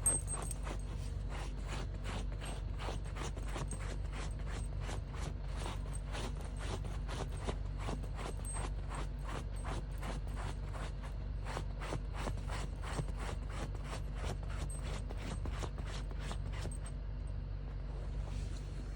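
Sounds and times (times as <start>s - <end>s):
dog paws scratching while digging: 0.0s - 16.9s.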